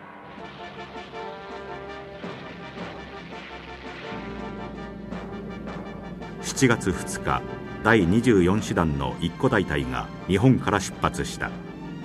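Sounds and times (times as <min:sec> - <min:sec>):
sustained background music: 0:00.0 - 0:12.0.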